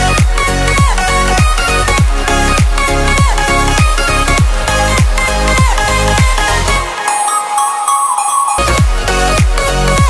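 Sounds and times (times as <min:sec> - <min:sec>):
electronic music with deep bass: 0:00.0 - 0:10.0.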